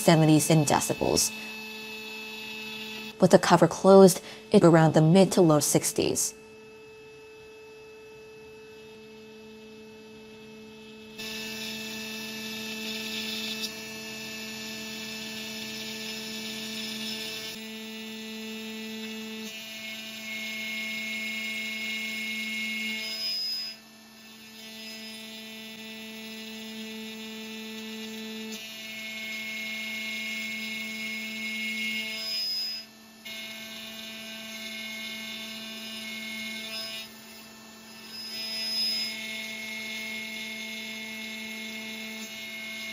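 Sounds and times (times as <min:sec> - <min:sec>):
spindle whine with cutting noise: 0:00.0 - 0:42.9.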